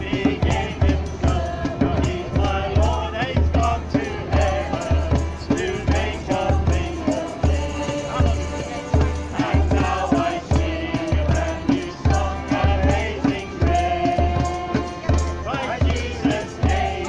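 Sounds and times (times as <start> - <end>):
worship music: 0.0 - 17.0.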